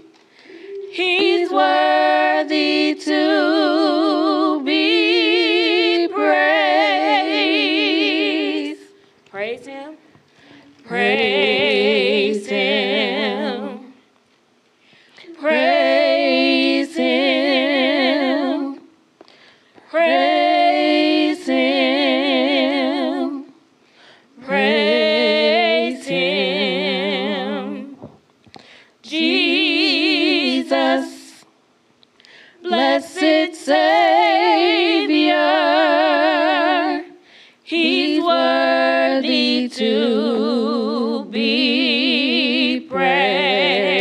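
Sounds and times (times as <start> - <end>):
person singing with vibrato: 0.0 - 9.0, 10.4 - 14.1, 15.2 - 19.1, 19.8 - 28.1, 32.4 - 44.0.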